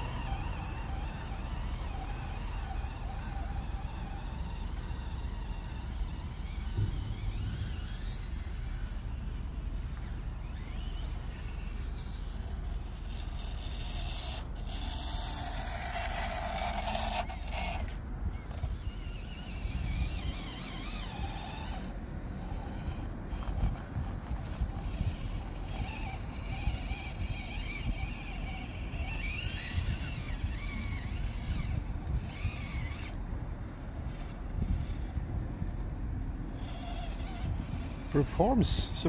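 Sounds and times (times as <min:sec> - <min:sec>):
small electric motor and gears whirring: 0:00.0 - 0:39.0.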